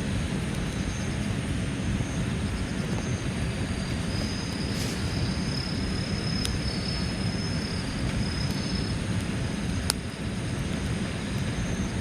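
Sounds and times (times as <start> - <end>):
wind on microphone: 0.0 - 12.0
campfire pops: 2.3 - 12.0.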